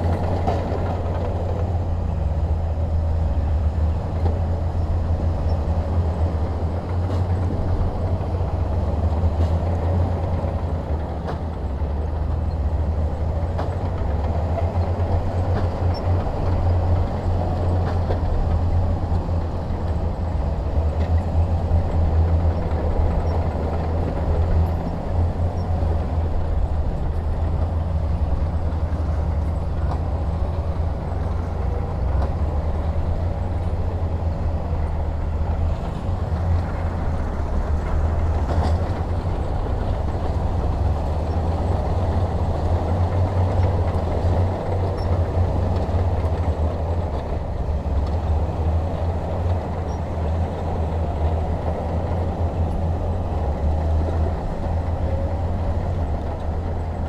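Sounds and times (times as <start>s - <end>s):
diesel earthmoving machinery rumbling: 0.0s - 57.0s.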